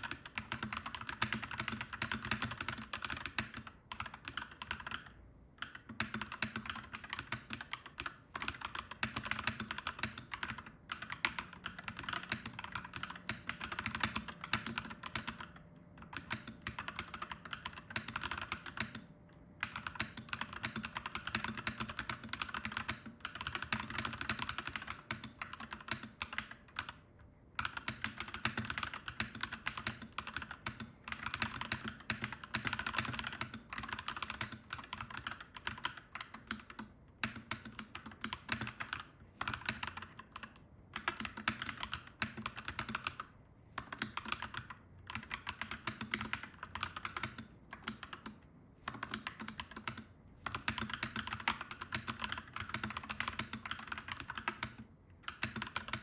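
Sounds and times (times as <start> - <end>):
mechanical keyboard typing: 0.0 - 27.0, 27.6 - 56.0.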